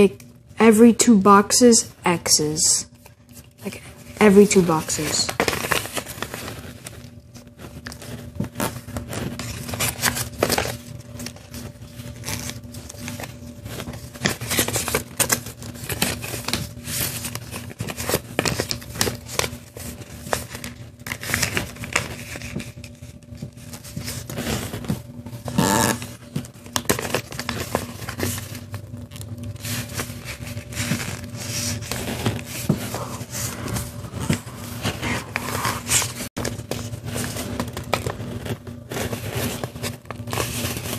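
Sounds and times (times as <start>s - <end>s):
steady low hum: 0.0s - 40.9s
paper rustling and creasing: 1.0s - 40.9s.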